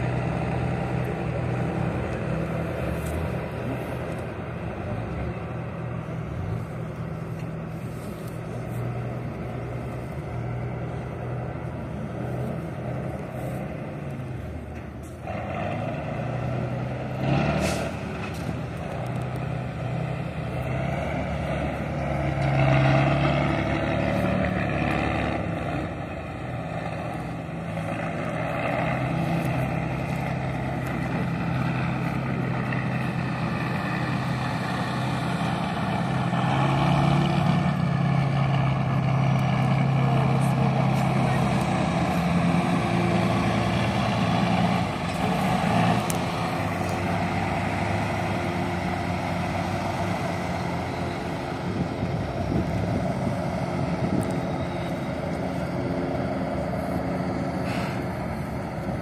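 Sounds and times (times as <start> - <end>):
truck diesel engine under load: 0.0 - 59.0.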